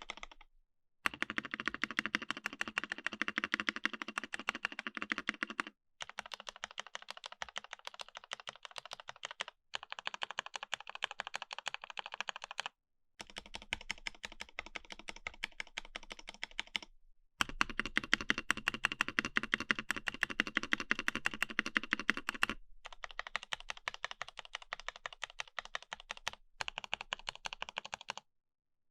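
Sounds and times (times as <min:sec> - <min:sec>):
mechanical keyboard typing: 0:00.0 - 0:00.5, 0:01.1 - 0:28.2.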